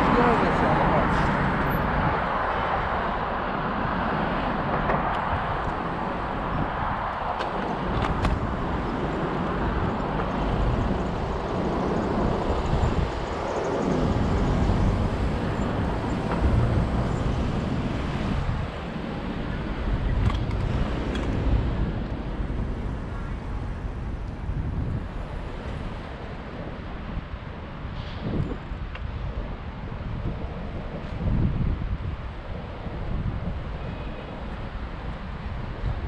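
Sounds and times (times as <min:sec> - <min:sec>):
road and traffic noise: 0:00.0 - 0:36.0
wind buffeting microphone: 0:00.0 - 0:36.0.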